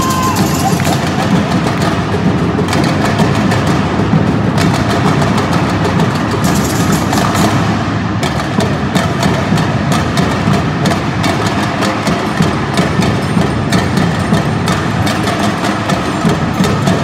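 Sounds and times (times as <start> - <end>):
samba percussion band drumming: 0.0 - 17.0.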